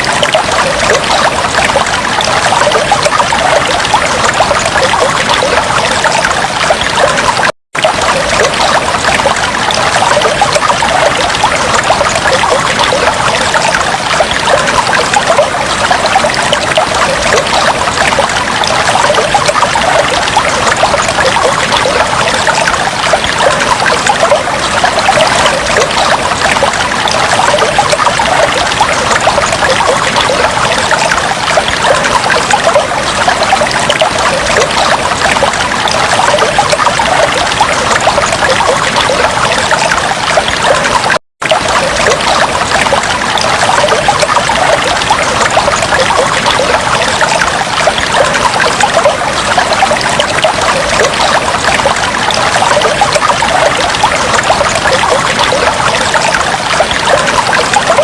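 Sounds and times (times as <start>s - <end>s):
water trickling and bubbling: 0.0s - 58.0s.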